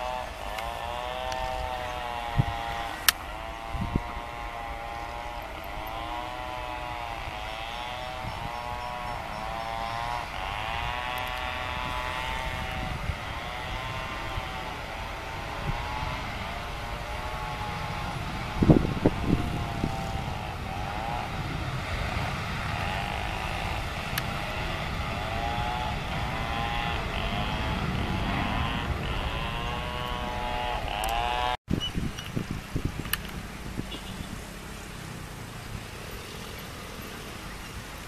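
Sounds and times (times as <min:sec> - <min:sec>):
distant jet engines drone: 0:00.0 - 0:38.0
wind on microphone: 0:00.0 - 0:38.0.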